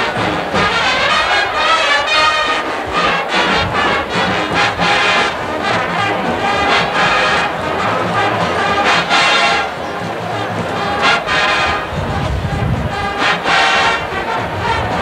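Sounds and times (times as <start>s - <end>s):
brass band playing swing: 0.0s - 15.0s.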